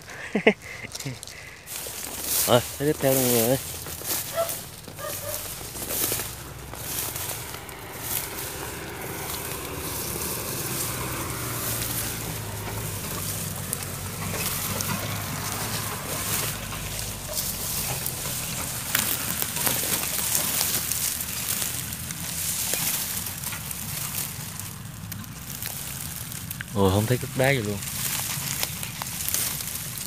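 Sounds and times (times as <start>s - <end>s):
dry grass crackling: 0.0s - 30.0s
footsteps through grass: 0.2s - 30.0s.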